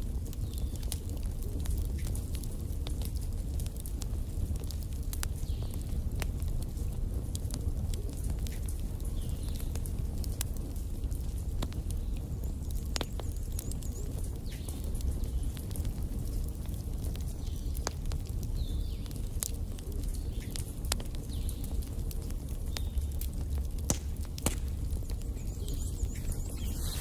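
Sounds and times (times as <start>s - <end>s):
crackles and pops from logs: 0.0s - 27.0s
low rumble of flames: 0.0s - 27.0s.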